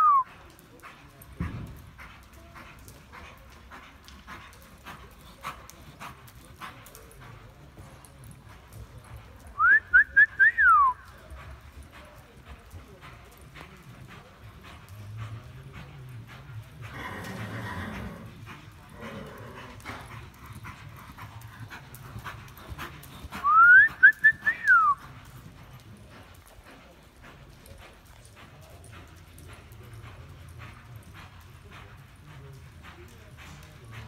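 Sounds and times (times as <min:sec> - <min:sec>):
horse hooves on dirt: 0:00.0 - 0:34.0.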